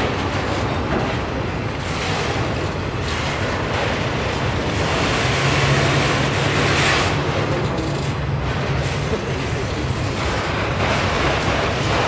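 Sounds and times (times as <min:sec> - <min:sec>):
steel wheels on rail: 0:00.0 - 0:12.0.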